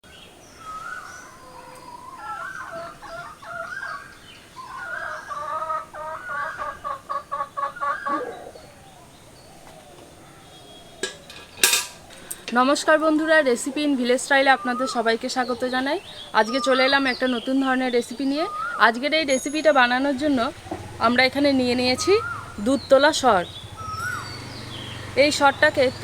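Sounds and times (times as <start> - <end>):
chickens clucking: 1.4 - 19.0, 20.0 - 26.0.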